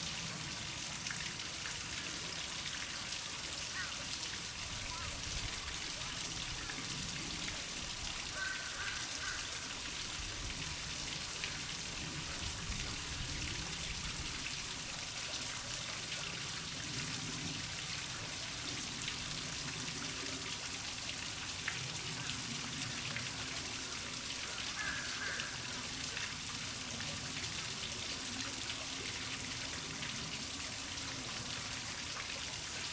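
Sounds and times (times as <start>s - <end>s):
hiss with light patter: 0.0s - 32.9s.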